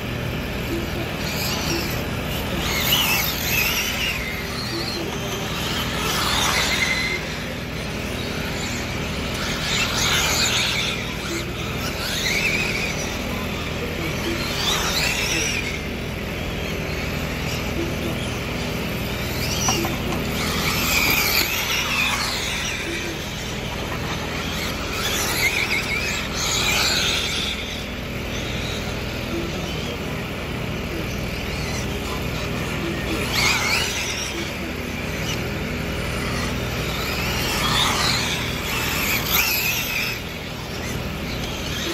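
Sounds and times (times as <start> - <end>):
rc cars whining past: 0.0 - 41.9.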